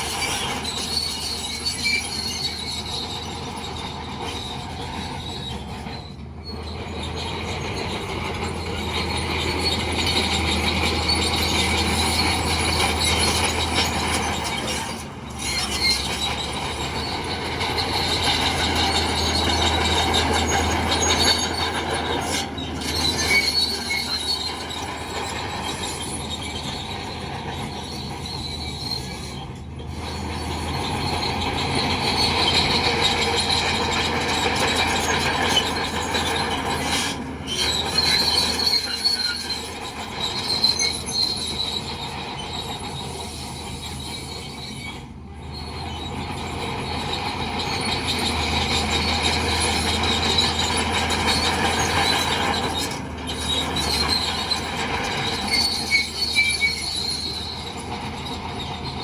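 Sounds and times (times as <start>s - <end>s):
diesel engine drone: 0.0s - 59.0s
metallic track squealing: 0.0s - 59.0s.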